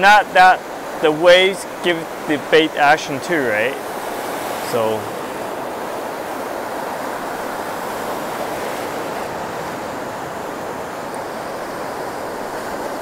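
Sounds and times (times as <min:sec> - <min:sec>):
ocean surf on a beach: 0:00.0 - 0:13.0.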